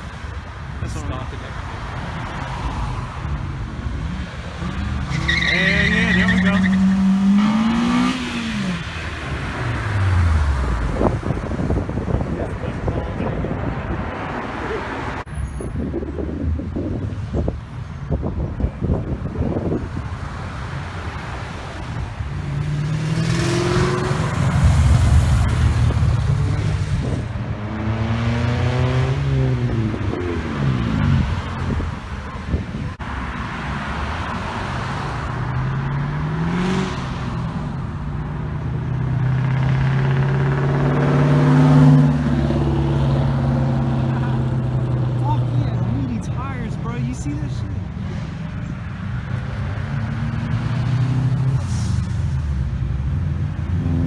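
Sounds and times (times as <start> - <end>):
cars accelerating past: 0.0 - 54.0.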